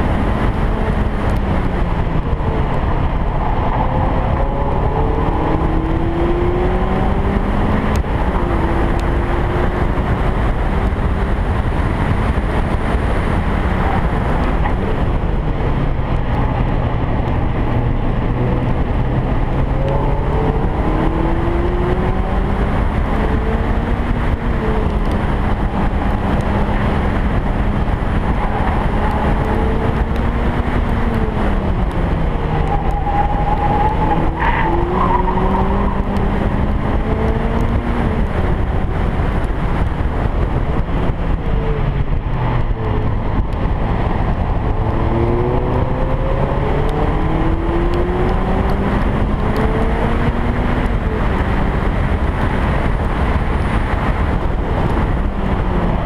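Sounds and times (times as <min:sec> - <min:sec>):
car engine revving: 0:00.0 - 0:56.0
wind and road rush: 0:00.0 - 0:56.0.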